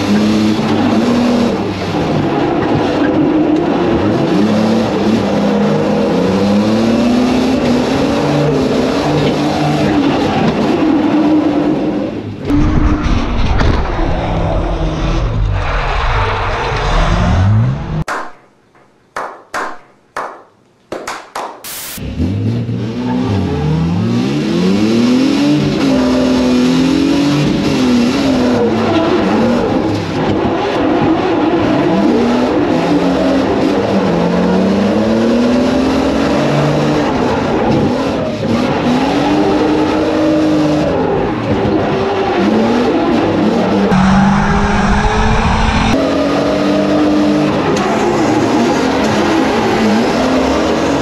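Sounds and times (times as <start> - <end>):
race car engine revving: 0.0 - 18.1, 21.7 - 51.0.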